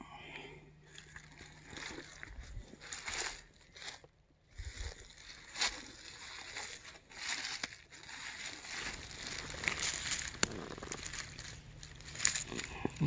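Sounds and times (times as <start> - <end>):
leaf litter rustling and crackling: 0.9 - 13.0.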